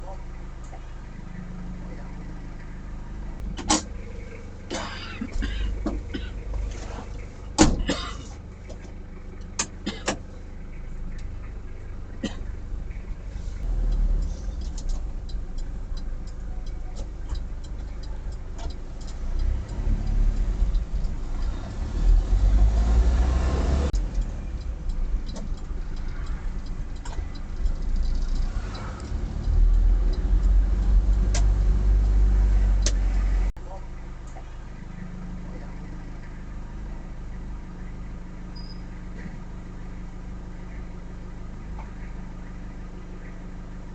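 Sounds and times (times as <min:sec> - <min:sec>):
engine and road noise: 0:00.0 - 0:43.9.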